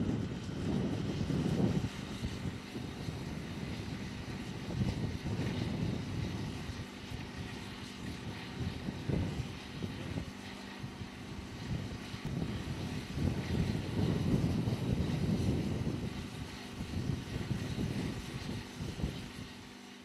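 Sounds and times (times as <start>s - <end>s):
engine drone with low rumble: 0.0s - 20.0s.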